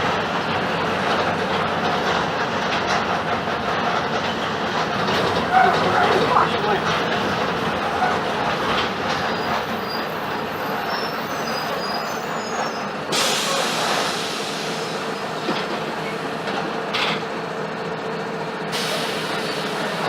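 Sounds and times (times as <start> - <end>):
bus diesel engine: 0.0 - 20.0.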